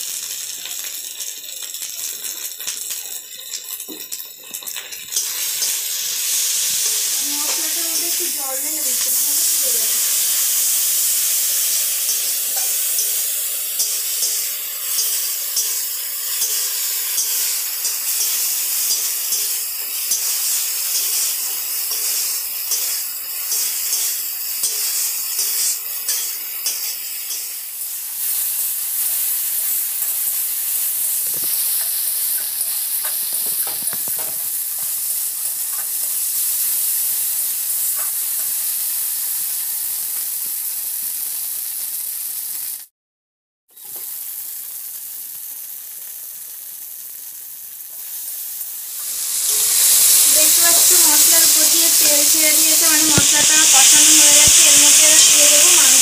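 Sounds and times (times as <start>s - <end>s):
spice paste sizzling in oil: 0.0s - 42.9s, 43.7s - 56.0s.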